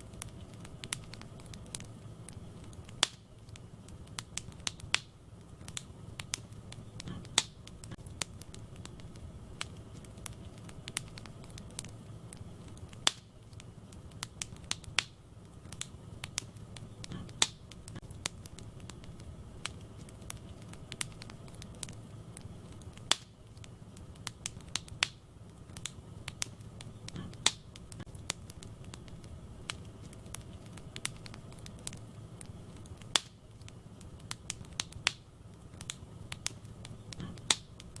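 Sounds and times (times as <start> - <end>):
fireplace crackling and popping: 0.0 - 38.0
low rumble of flames: 0.0 - 38.0.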